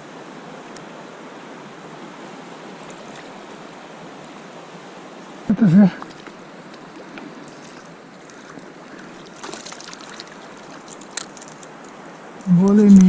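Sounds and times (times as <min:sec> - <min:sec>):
river rushing over rapids: 0:00.0 - 0:12.9.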